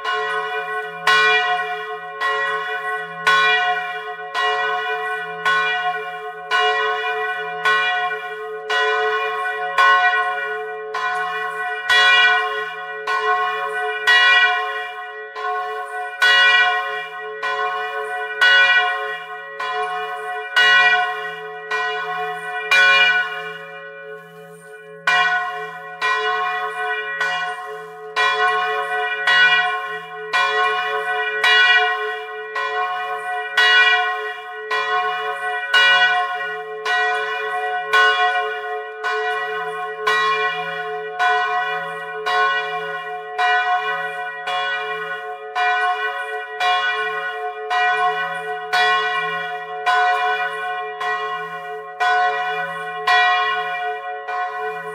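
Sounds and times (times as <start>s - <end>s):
church bell ringing: 0.0s - 54.9s.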